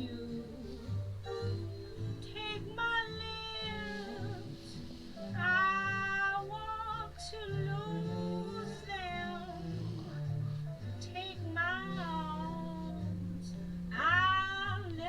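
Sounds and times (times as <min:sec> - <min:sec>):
jazz bass line: 0:00.0 - 0:15.0.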